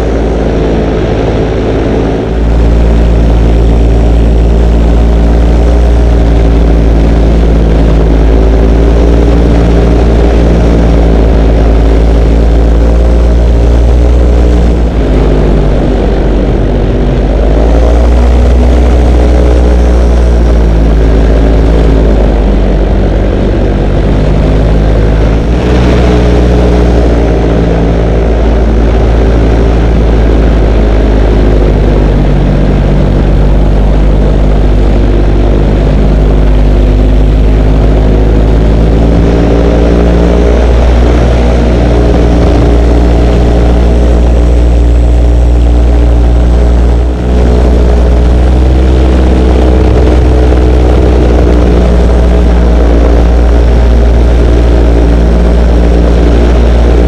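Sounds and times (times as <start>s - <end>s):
propeller aircraft engine: 0.0s - 57.0s
wind rumble on microphone: 0.0s - 57.0s.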